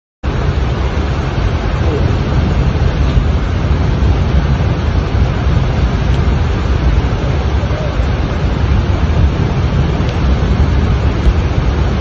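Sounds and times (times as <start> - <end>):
heavy rain: 0.2 - 12.0
rushing flood water: 0.2 - 12.0.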